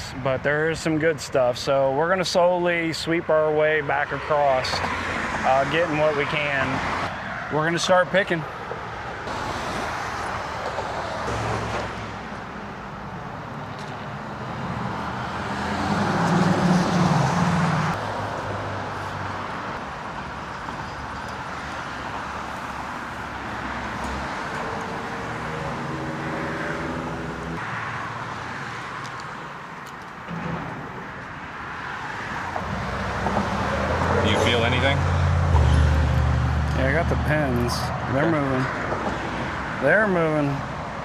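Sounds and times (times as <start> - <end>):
steady hum of traffic: 0.0 - 41.0
cars driving past: 3.4 - 41.0.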